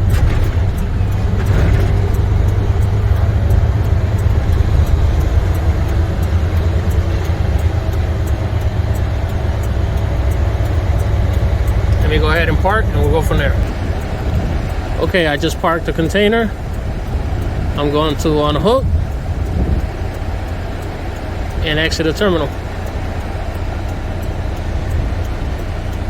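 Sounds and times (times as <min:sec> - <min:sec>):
diesel truck engine rumbling: 0:00.0 - 0:26.0
faint regular ticking: 0:00.0 - 0:26.0.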